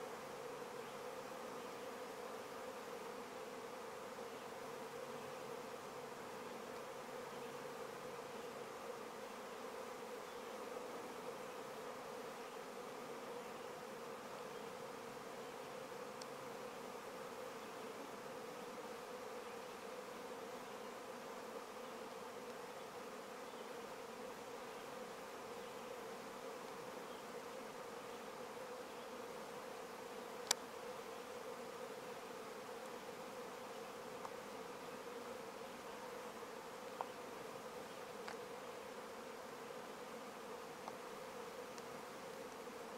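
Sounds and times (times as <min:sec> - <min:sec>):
insect swarm buzzing: 0:00.0 - 0:42.9.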